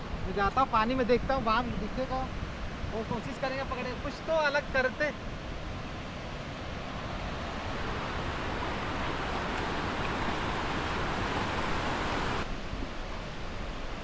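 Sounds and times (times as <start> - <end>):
water rushing over a weir: 0.1 - 14.0.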